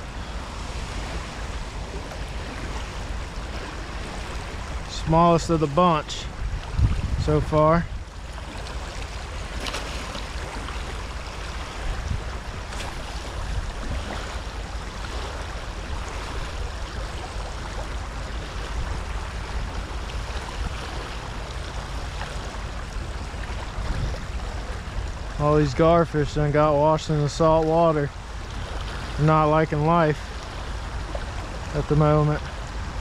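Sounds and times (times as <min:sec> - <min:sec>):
moving water: 0:00.0 - 0:33.0
wind: 0:00.0 - 0:33.0
wind buffeting microphone: 0:00.0 - 0:33.0.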